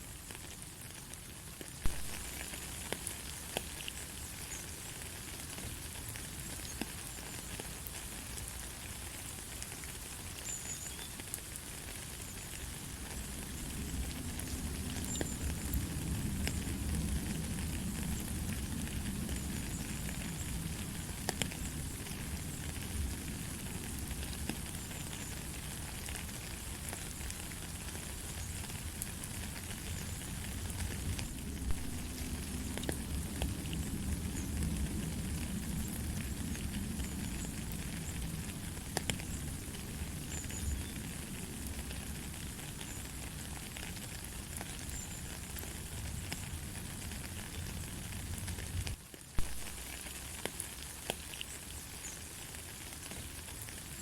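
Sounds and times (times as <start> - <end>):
light rain: 0.0 - 54.0.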